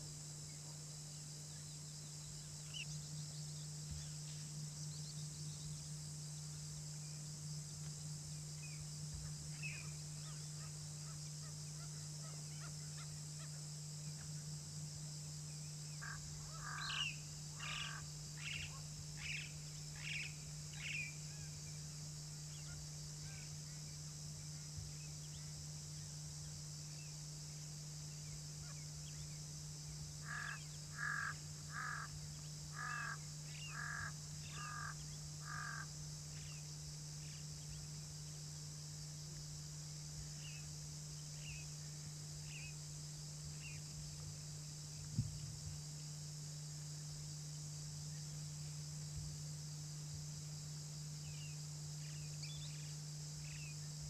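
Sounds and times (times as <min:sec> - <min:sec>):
high insect drone: 0:00.0 - 0:54.0
low steady hum: 0:00.0 - 0:54.0.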